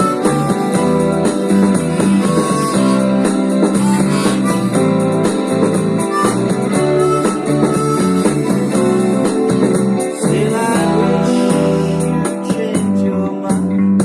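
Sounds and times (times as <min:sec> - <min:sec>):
acoustic guitar strumming: 0:00.0 - 0:12.7.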